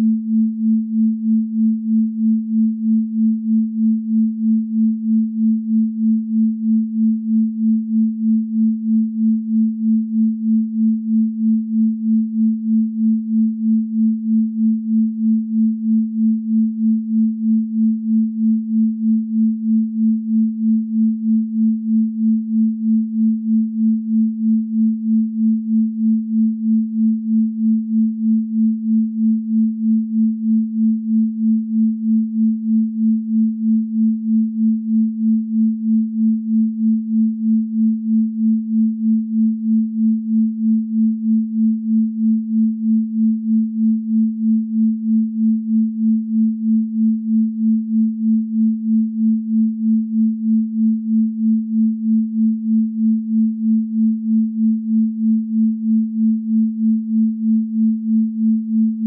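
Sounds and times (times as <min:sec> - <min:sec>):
pulsing sine tone: 0:00.0 - 0:59.0.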